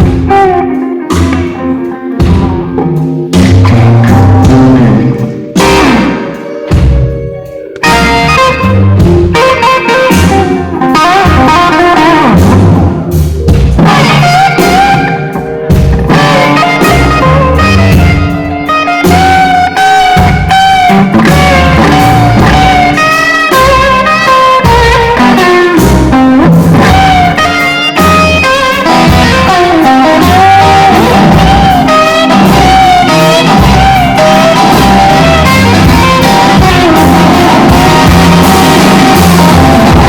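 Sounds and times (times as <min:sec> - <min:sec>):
bass and drum kit: 0:00.0 - 0:40.0
electric guitar lead: 0:00.0 - 0:40.0.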